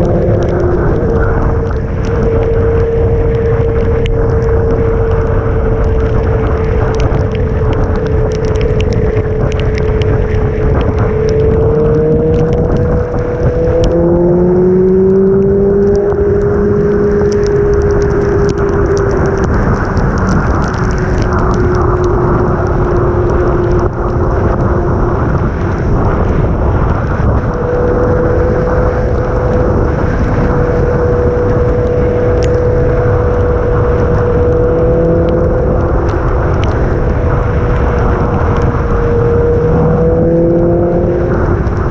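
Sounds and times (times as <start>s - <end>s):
motorcycle engine running: 0.0s - 41.9s
wind rush on microphone: 0.0s - 41.9s.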